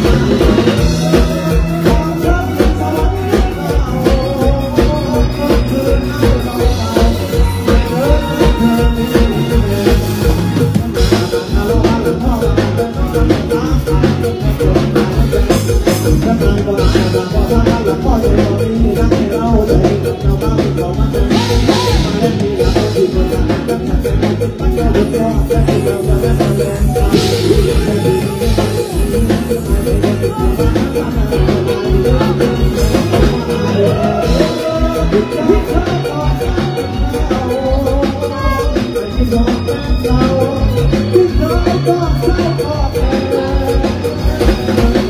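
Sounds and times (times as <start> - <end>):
drum kit beat: 0.0 - 45.0
live band music: 0.0 - 45.0
person singing into a microphone: 0.0 - 45.0.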